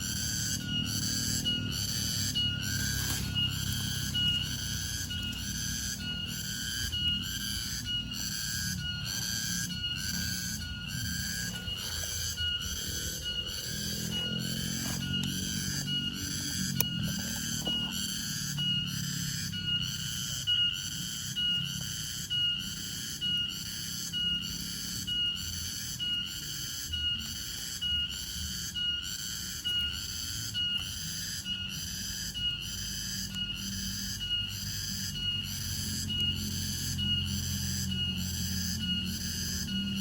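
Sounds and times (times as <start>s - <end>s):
cricket chirping: 0.0s - 40.0s.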